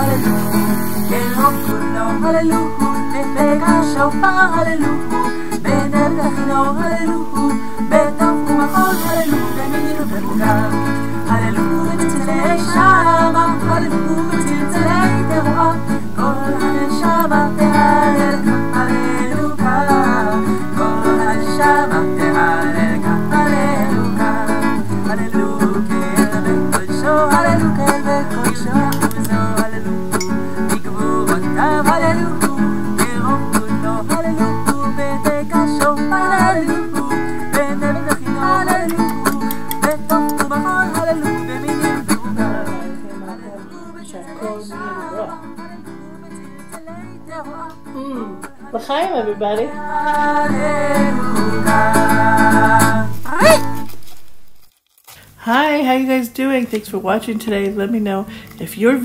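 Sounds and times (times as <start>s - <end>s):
strummed acoustic guitar music: 0.0s - 54.4s.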